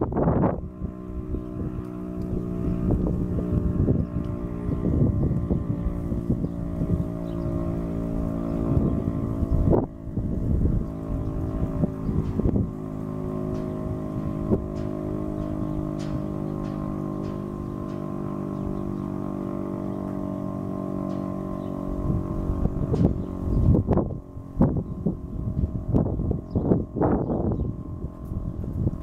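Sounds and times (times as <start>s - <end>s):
warning siren steady tone: 0.0s - 29.0s
wind buffeting microphone: 0.0s - 29.0s.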